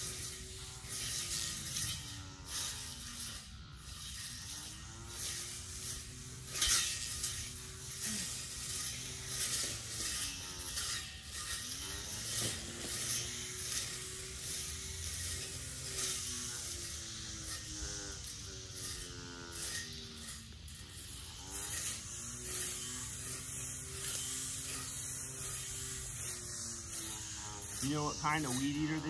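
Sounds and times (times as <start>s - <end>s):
blade swishing through grass: 0.0s - 29.0s
electric weed eater motor humming: 0.0s - 29.0s.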